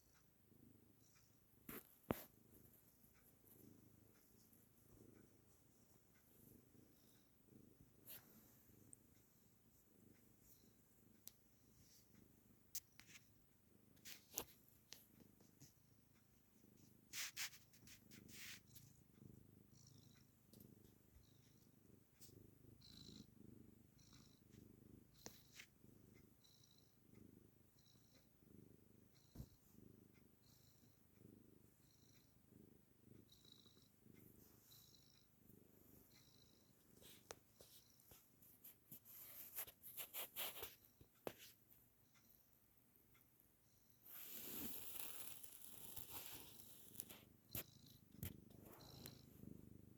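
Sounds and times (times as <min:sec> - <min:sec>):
cat purring: 0:00.0 - 0:49.9.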